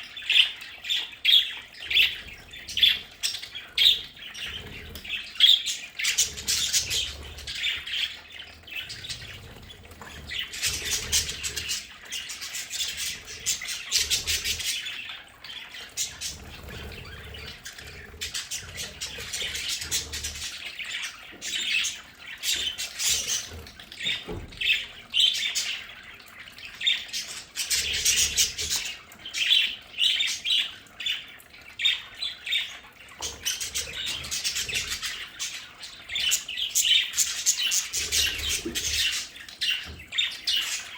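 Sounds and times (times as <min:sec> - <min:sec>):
budgerigars chattering: 0:00.0 - 0:26.0, 0:26.7 - 0:40.9.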